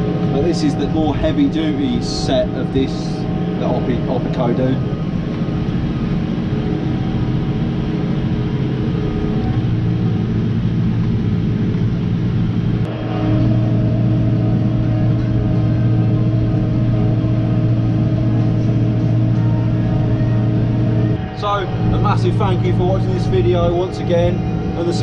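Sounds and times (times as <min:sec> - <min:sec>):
tractor engine droning under load: 0:00.0 - 0:25.0.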